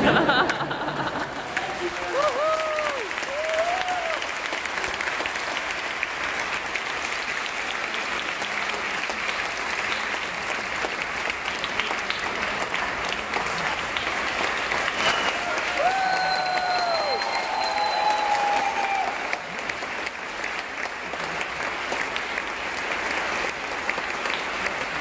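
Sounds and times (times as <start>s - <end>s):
large audience applauding: 0.0s - 25.0s.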